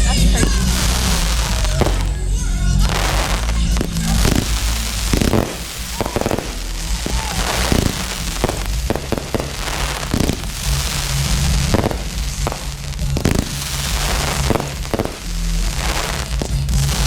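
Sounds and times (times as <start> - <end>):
crackling fireworks: 0.0 - 17.0
fireworks bangs: 0.0 - 17.0.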